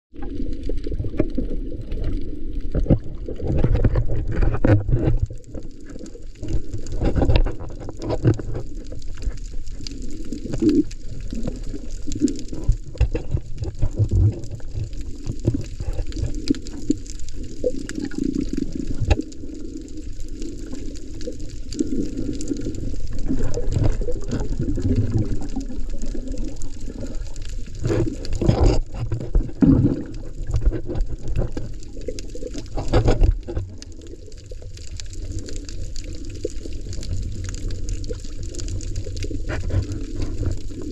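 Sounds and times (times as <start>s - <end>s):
bubbling: 0.1s - 40.9s
underwater water wash: 0.1s - 40.9s.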